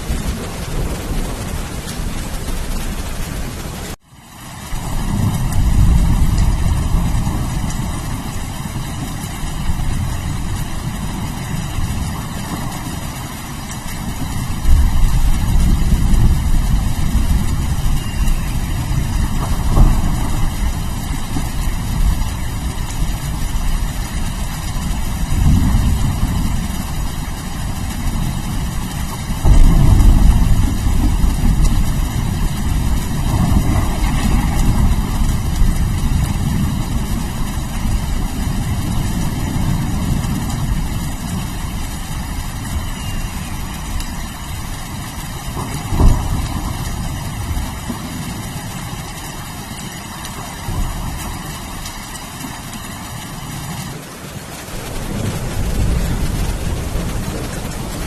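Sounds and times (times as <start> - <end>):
rolling thunder: 0.0 - 4.0, 4.6 - 58.0
heavy rain: 0.0 - 58.0.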